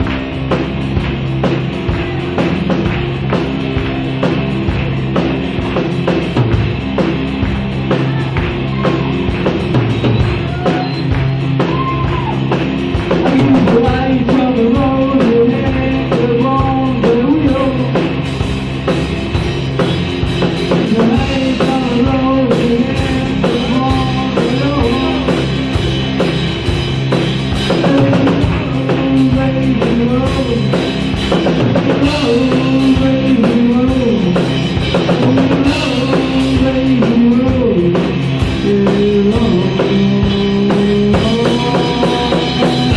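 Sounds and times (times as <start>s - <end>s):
drum kit beat: 0.0s - 42.9s
rock band playing: 0.0s - 42.9s.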